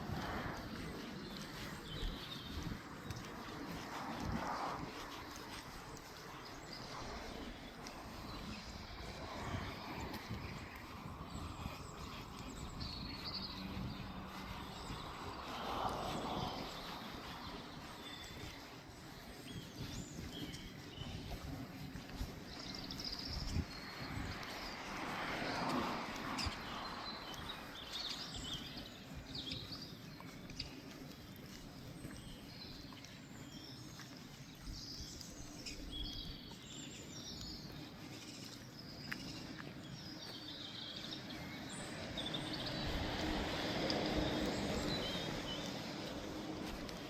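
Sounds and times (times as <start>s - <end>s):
songbirds chirping and singing: 0.0s - 47.0s.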